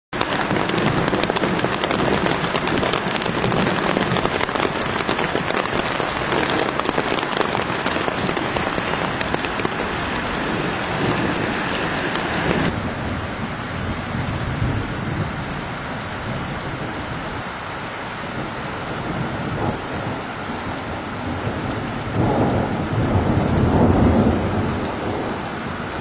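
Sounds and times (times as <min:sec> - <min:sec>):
rain on wet grass: 0:00.1 - 0:26.0.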